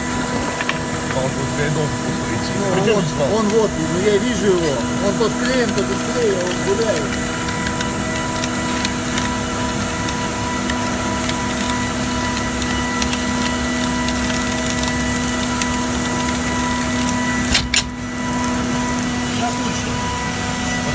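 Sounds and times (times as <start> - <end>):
machine humming: 0.0 - 20.9
machine whining tones: 0.0 - 20.9.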